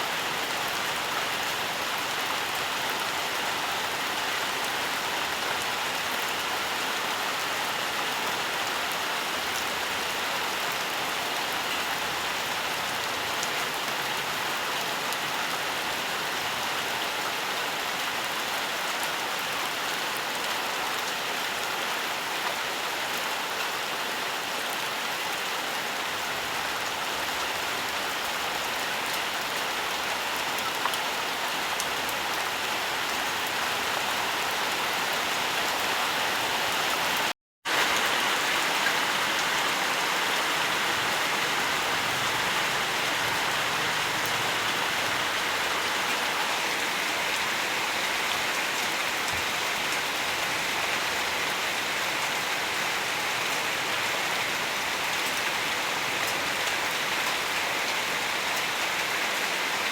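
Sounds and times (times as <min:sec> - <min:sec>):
rain hissing on surfaces: 0:00.0 - 0:59.9.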